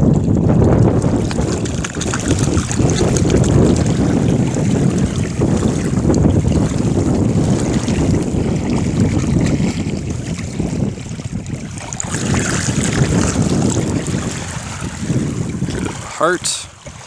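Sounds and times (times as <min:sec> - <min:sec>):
shallow river water: 0:00.0 - 0:17.0
wind buffeting microphone: 0:00.0 - 0:17.0.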